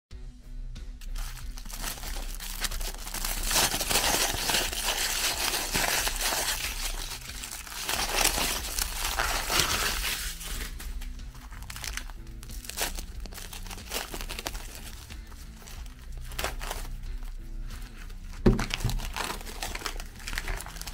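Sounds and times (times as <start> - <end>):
background music: 0.1 - 20.9
aluminium foil crinkling: 1.0 - 20.9
cling film rustling: 1.0 - 20.9.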